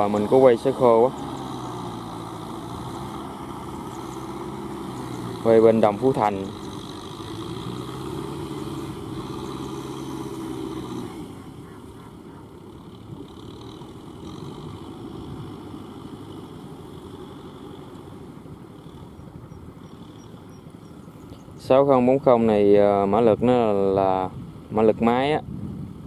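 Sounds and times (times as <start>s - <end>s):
tractor diesel engine running: 0.0s - 22.3s.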